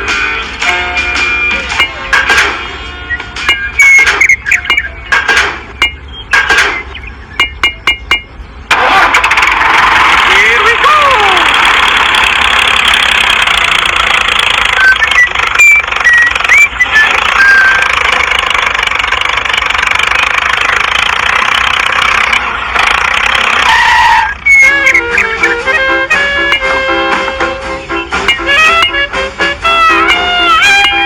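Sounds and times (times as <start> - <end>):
small tractor engine rattling: 3.4 - 31.0.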